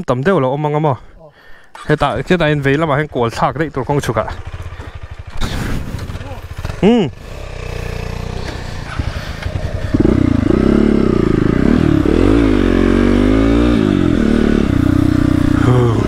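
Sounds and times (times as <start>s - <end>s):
motorcycle engine revving: 2.0s - 16.0s.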